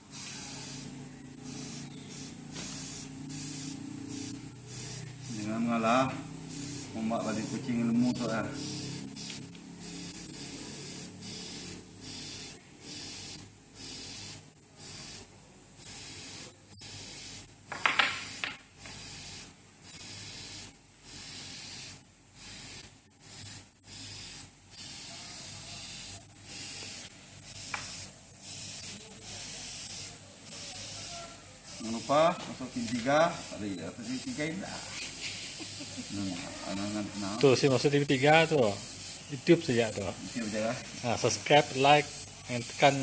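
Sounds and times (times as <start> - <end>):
airbrush spraying hiss: 0.0 - 43.0.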